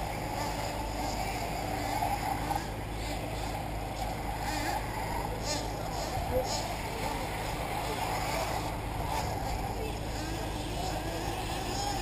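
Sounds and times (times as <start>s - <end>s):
rc car motors droning: 0.0s - 12.0s.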